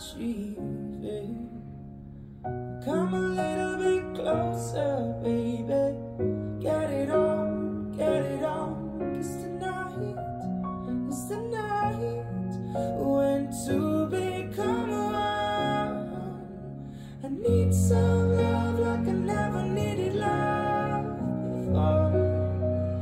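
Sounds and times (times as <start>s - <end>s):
person singing: 2.8s - 23.0s.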